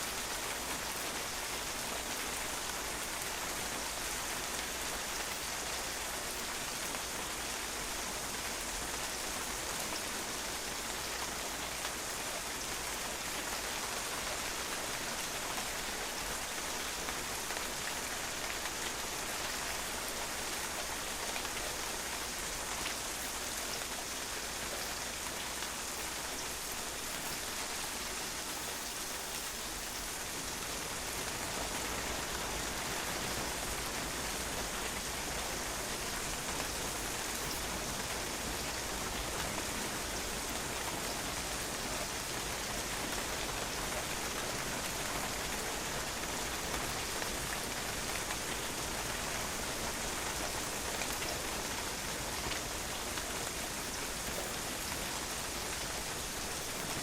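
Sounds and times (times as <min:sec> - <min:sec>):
rain pattering on a patio: 0:00.0 - 0:57.0.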